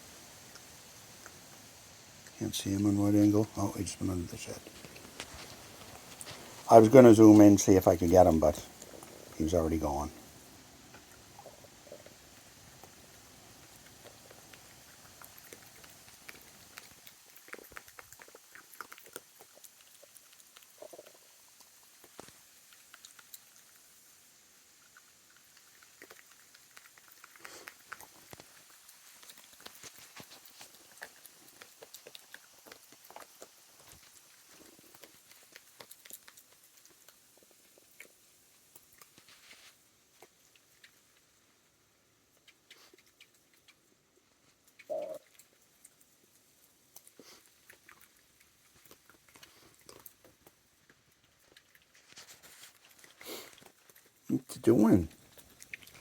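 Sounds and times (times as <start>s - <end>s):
raccoon chewing peanuts: 0.0s - 56.0s.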